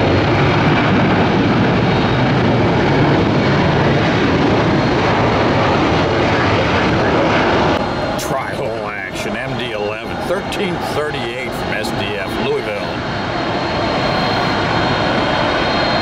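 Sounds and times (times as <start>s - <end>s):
airliner jet engines rushing: 0.0s - 16.0s.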